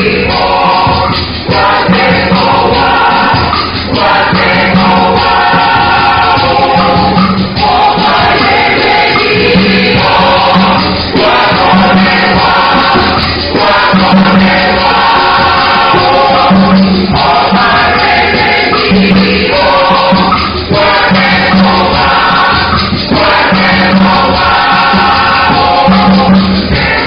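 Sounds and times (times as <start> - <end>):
church choir singing: 0.0 - 27.0.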